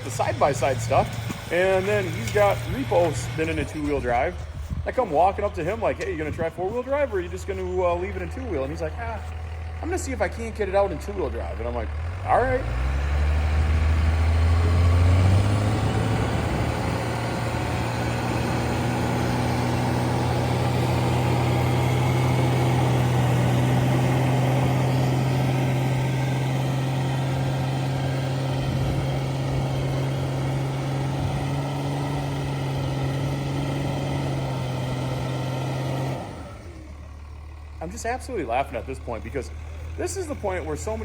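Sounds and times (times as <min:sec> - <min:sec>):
truck engine revving: 0:00.0 - 0:41.0
tyres spinning in snow: 0:00.0 - 0:41.0.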